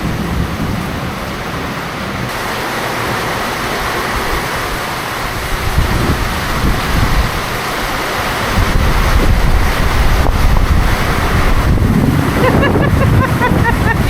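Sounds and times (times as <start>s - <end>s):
heavy rain pouring: 0.0s - 14.0s
wind buffeting microphone: 0.0s - 14.0s.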